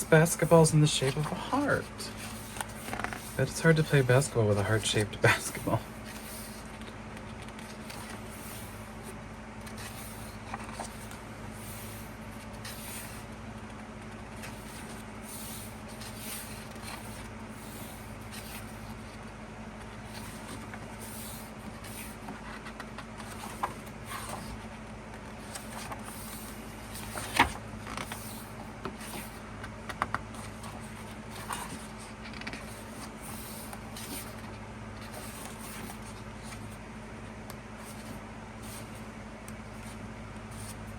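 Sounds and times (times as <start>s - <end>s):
low electrical hum: 0.0s - 40.9s
book pages rustling: 0.1s - 36.8s, 37.6s - 40.9s.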